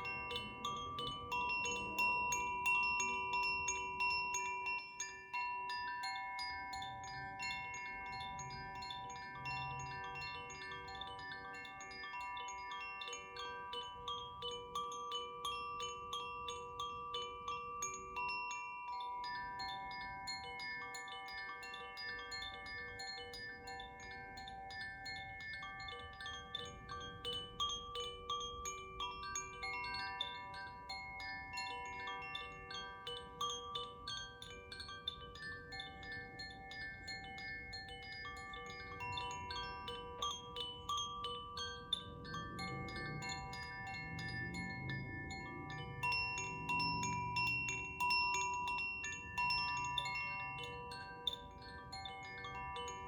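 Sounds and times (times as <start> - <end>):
chimes tinkling: 0.0 - 53.0.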